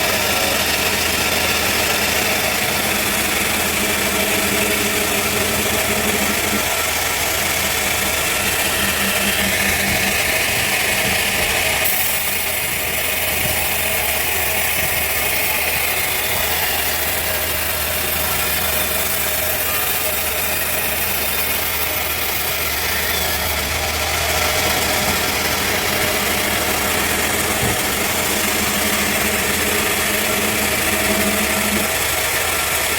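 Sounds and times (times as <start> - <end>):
sawmill machinery running: 0.0 - 32.9.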